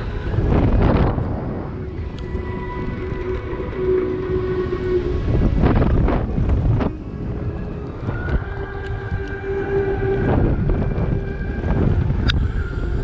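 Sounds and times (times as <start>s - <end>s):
steady droning hum: 0.0s - 13.0s
wind buffeting microphone: 0.0s - 13.0s.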